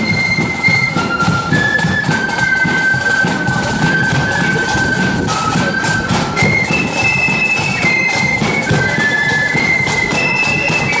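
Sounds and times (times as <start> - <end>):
flutes playing high melody: 0.0 - 11.0
marching band drums: 0.0 - 11.0.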